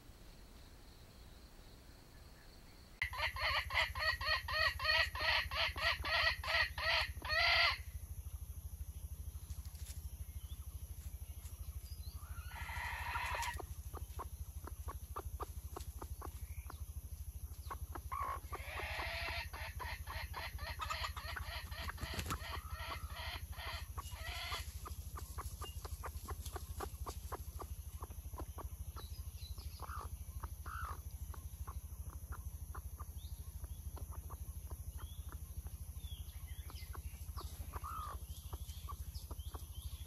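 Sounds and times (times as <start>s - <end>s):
chickens clucking: 3.0s - 7.8s, 11.4s - 40.0s.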